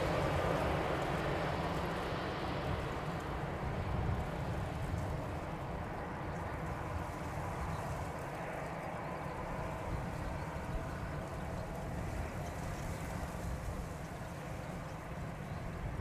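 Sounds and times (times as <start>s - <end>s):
jet engines rumble and hiss: 0.0s - 16.0s.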